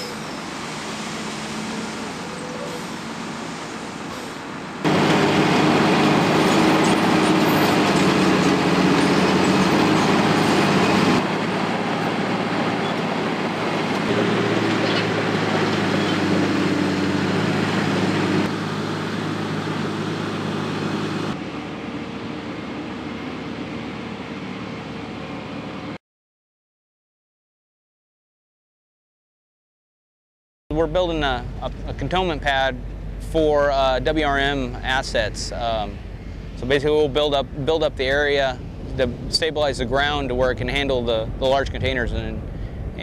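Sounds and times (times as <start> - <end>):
diesel engines running: 0.0 - 26.0, 30.7 - 43.0.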